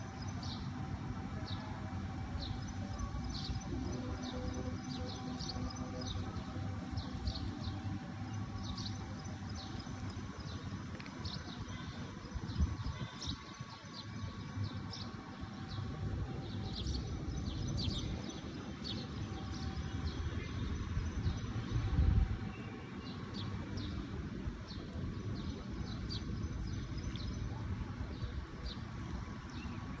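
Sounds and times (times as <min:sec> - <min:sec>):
low rumble of wind: 0:00.0 - 0:30.0.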